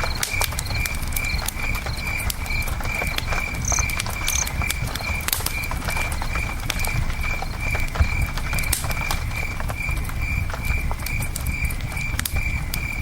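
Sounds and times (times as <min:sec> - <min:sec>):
campfire crackling and popping: 0:00.0 - 0:13.0
cricket chirping: 0:00.0 - 0:13.0.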